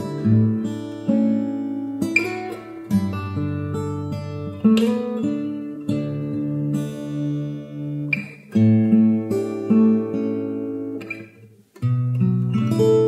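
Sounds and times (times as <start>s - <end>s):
fingerstyle acoustic guitar: 0.0s - 13.0s.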